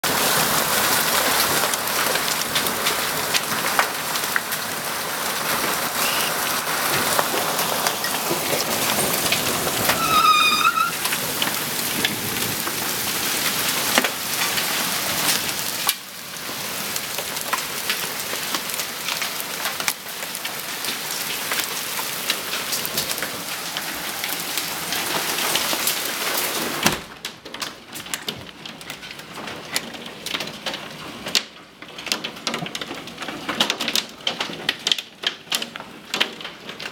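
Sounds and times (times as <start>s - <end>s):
hailstones pelting: 0.0s - 36.9s.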